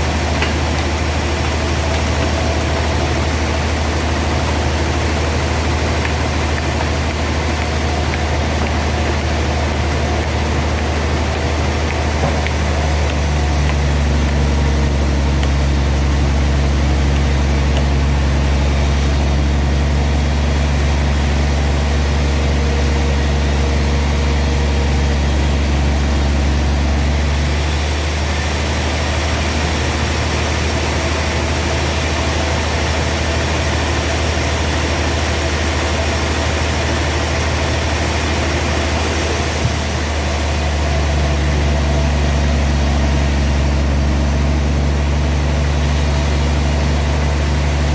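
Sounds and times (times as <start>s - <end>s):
sawmill engine droning: 0.0s - 47.9s.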